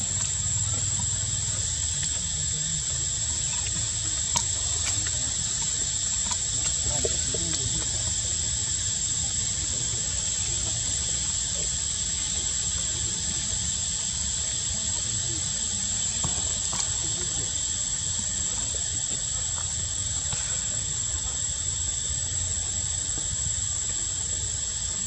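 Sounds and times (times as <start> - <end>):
constant hiss: 0.0 - 25.0
high-pitched insect drone: 0.0 - 25.0.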